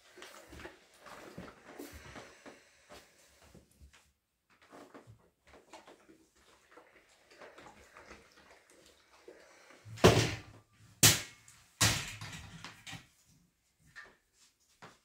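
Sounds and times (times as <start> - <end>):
household handling noises: 0.0 - 15.0.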